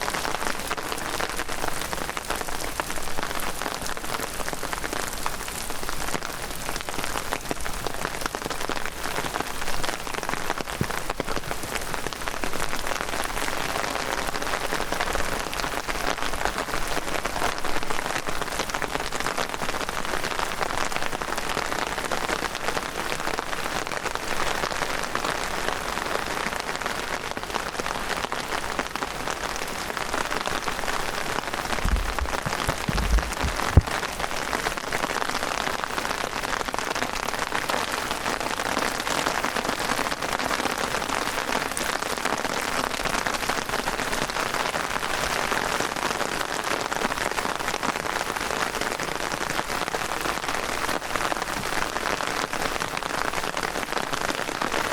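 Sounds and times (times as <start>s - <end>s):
heavy rain pattering: 0.0s - 54.9s.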